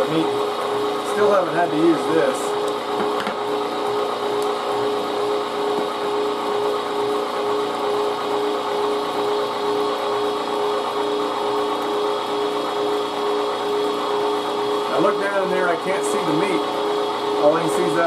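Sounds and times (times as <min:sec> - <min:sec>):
electric meat grinder humming: 0:00.0 - 0:18.0.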